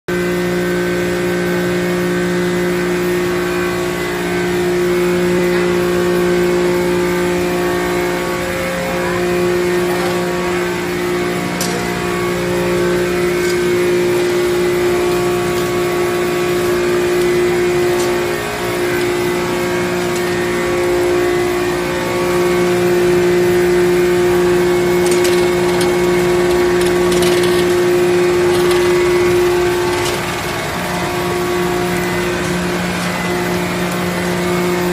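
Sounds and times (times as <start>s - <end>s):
machinery motor hum: 0.1s - 34.9s.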